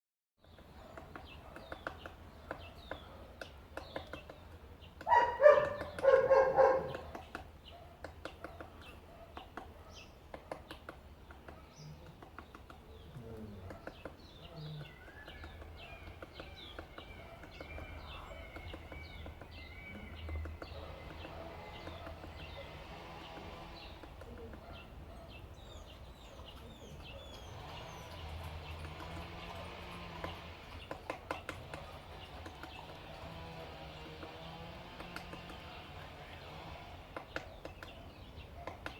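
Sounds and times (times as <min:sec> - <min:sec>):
woodpecker tapping on wood: 0:00.4 - 0:38.9
loud pitched bird calls: 0:00.5 - 0:38.9.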